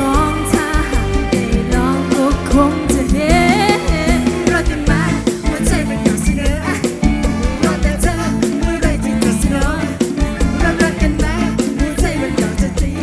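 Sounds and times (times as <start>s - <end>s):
fast drum-kit beat: 0.0s - 13.0s
live band music: 0.0s - 13.0s
wavering melodic lead: 0.0s - 13.0s.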